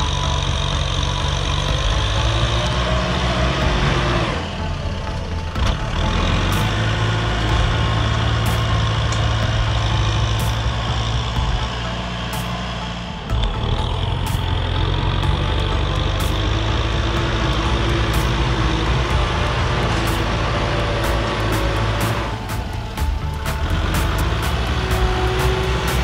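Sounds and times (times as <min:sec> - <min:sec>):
dozer blade pushing soil: 0:00.0 - 0:26.0
tractor diesel engine under load: 0:00.0 - 0:26.0.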